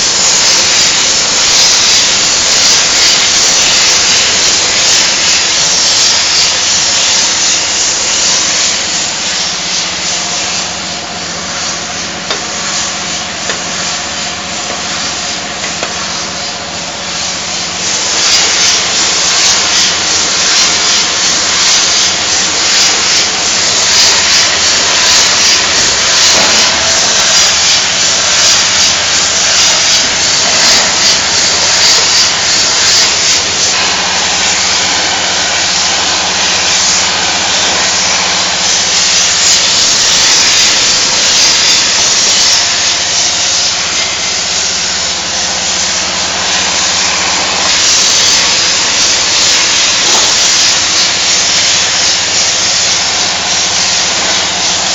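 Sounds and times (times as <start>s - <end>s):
loud steady hiss: 0.0s - 54.9s.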